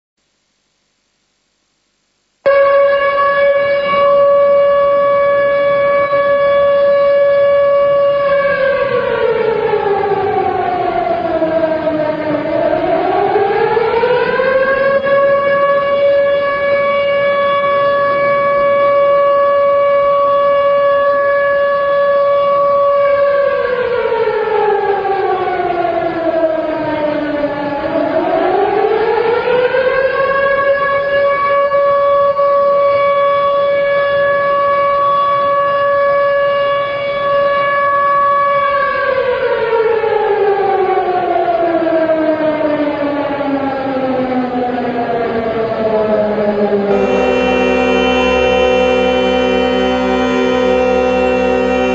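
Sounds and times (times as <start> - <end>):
air-raid siren wailing: 2.5 - 51.9.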